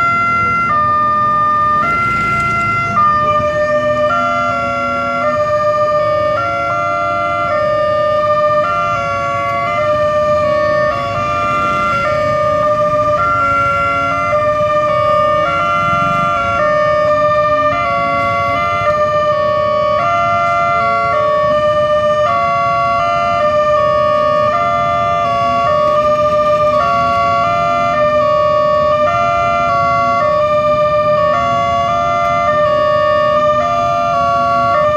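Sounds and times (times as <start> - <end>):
motorcycle and truck traffic: 0.0 - 34.9.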